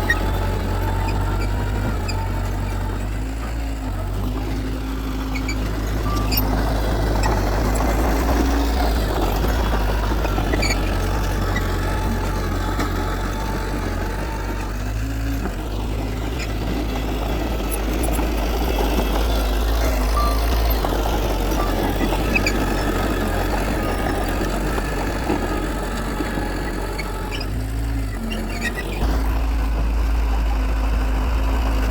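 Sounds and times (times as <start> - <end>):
heavy diesel machinery droning: 0.0 - 31.9.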